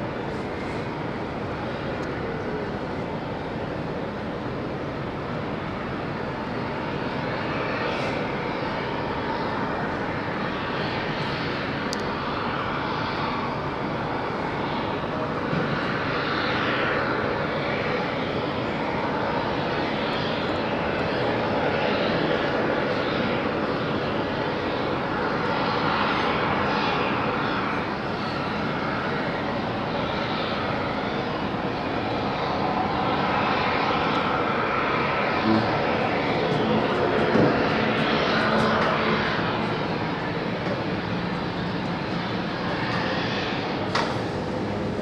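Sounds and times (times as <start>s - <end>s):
seaplane propeller engine: 0.0s - 45.0s.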